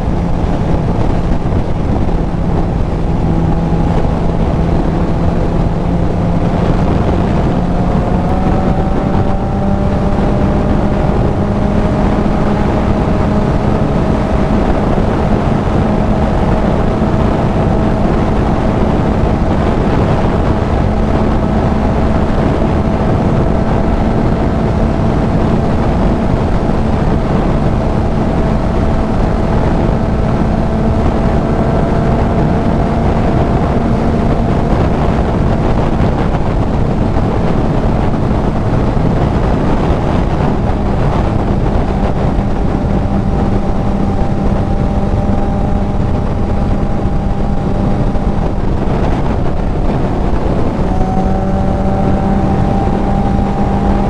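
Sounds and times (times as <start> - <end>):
motorcycle engine under steady throttle: 0.0 - 54.0
wind rush on microphone: 0.0 - 54.0.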